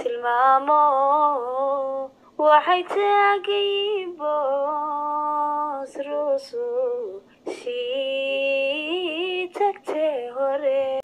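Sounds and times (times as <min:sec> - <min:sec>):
person singing unaccompanied: 0:00.0 - 0:11.0.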